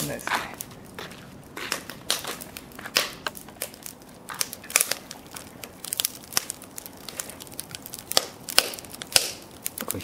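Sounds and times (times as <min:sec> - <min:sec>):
firewood crackling and popping: 0:00.0 - 0:10.0.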